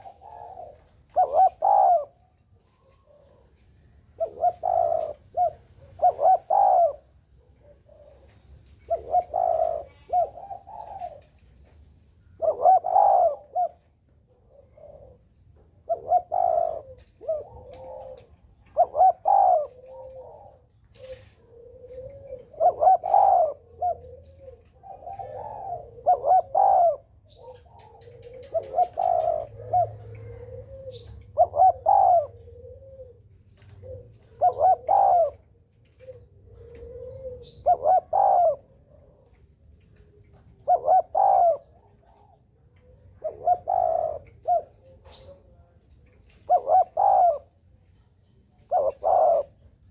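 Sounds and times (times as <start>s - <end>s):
dove cooing: 0.0s - 49.9s
faint high bird chirps: 8.0s - 13.9s, 14.6s - 49.9s.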